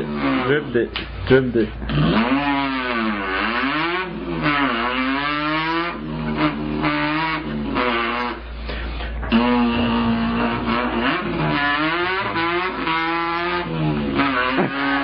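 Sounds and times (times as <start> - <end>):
person imitating car engine: 0.0 - 15.0.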